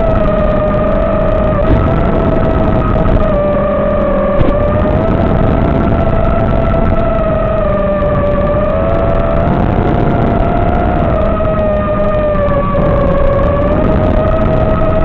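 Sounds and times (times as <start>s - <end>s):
electric motors and propellers whining: 0.0s - 15.0s
heavy wind rush: 0.0s - 15.0s.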